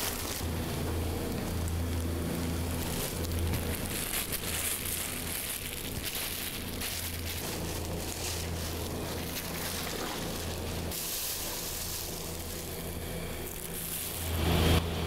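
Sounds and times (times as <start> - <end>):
plastic bags crinkling: 0.0 - 0.4, 1.3 - 14.4
steady low hum: 0.0 - 15.0.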